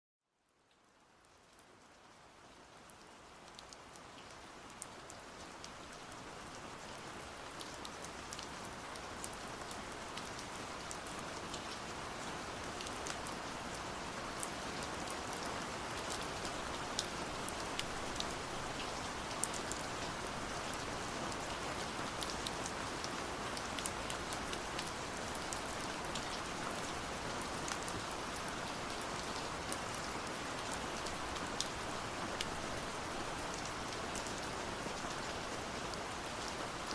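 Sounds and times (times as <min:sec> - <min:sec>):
rain drops ticking on hard surface: 0:00.6 - 0:36.9.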